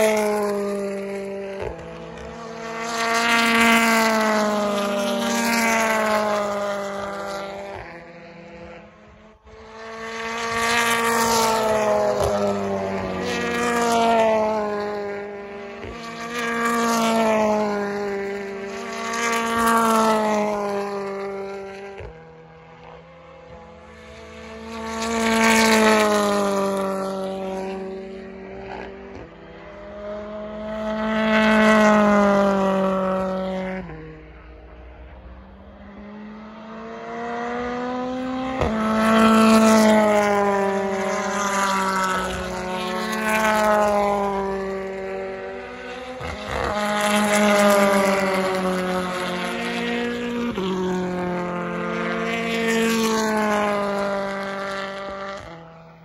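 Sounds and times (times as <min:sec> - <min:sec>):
racing car engines at full throttle: 0:00.0 - 0:56.0.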